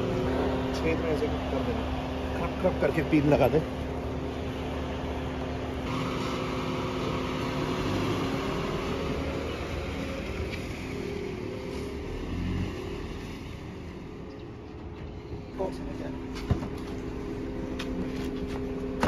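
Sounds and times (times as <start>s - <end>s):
noisy outdoor background: 0.0s - 19.0s
vehicle engine running: 0.0s - 19.0s.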